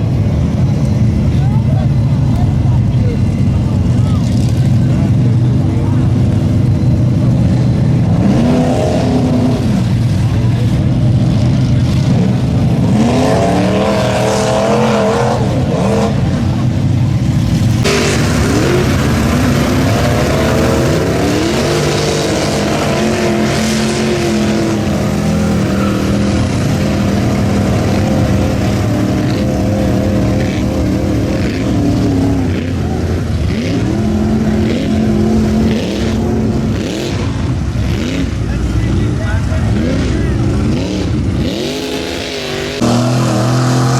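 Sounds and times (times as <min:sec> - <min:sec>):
engine drone: 0:00.0 - 0:43.9
truck engines revving hard: 0:00.0 - 0:43.9.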